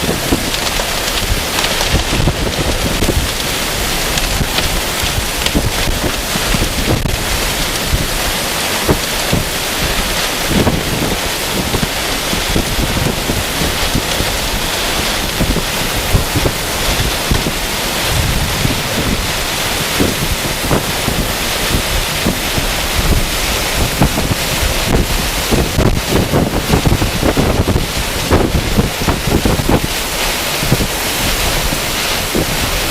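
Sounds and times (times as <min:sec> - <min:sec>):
strong storm winds rushing: 0:00.0 - 0:32.9
wind buffeting the microphone: 0:00.0 - 0:32.9.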